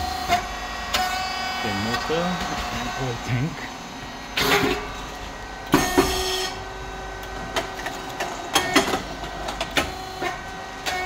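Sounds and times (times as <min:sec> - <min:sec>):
pump motor hum: 0:00.0 - 0:11.0.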